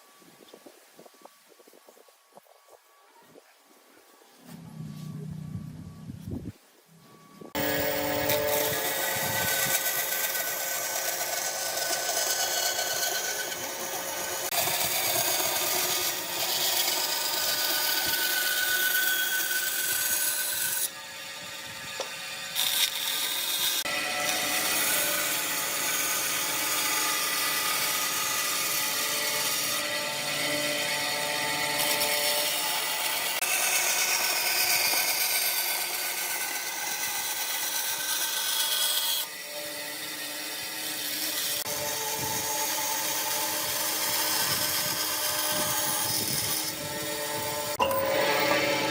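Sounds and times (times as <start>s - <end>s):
power tool motor whining on wood: 7.0s - 48.9s.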